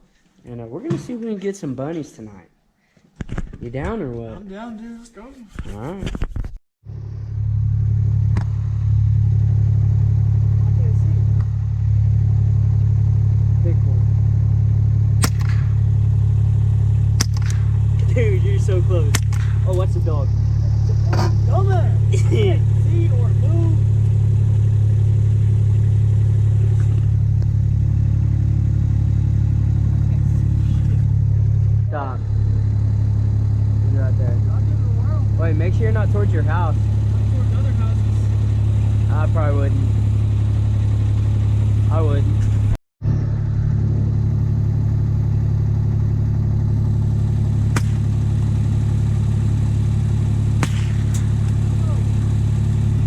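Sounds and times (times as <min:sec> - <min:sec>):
vehicle engine droning: 0:06.8 - 0:53.0.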